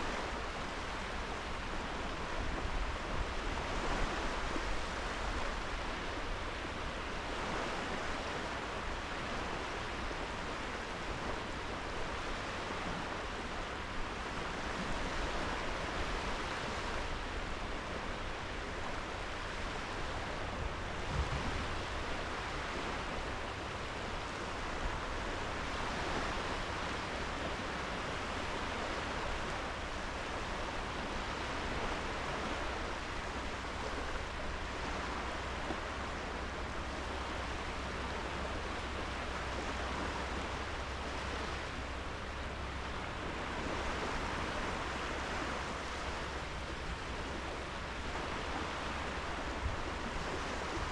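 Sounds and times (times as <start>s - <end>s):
waves breaking on beach: 0.0s - 50.9s.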